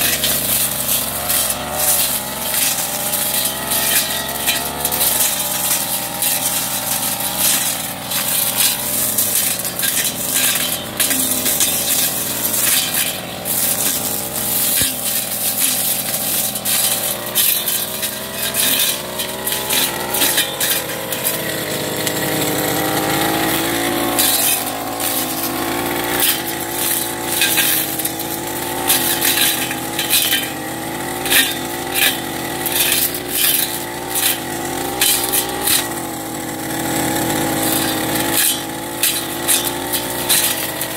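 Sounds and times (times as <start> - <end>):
brush cutter engine running: 0.0 - 40.9
cutting head striking stems: 0.0 - 40.9.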